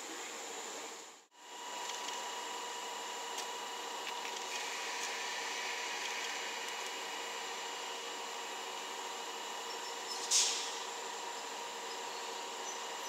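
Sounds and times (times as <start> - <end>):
train equipment hum and hiss: 0.0 - 13.0.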